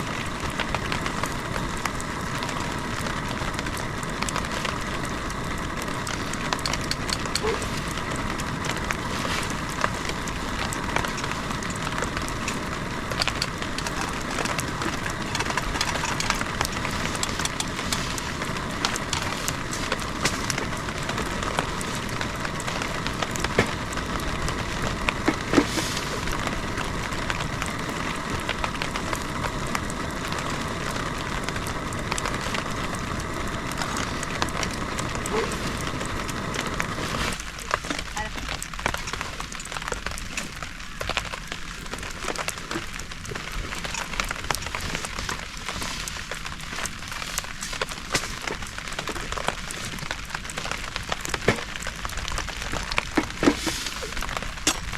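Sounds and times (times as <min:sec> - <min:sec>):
heavy rain falling: 0:00.0 - 0:54.9
raindrops ticking on a surface: 0:00.0 - 0:54.9.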